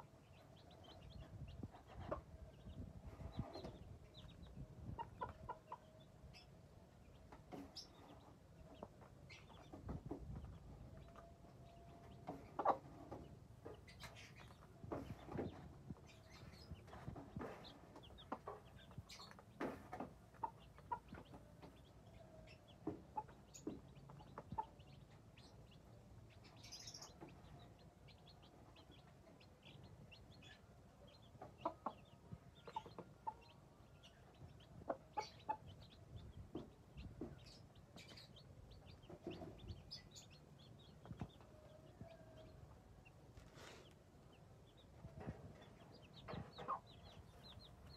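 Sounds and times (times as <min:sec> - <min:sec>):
hen clucking: 0:00.0 - 0:06.4, 0:11.8 - 0:15.6, 0:16.2 - 0:42.2, 0:44.7 - 0:47.9
chicks peeping: 0:00.0 - 0:47.9
birds pecking on concrete: 0:07.1 - 0:30.6, 0:31.2 - 0:47.9.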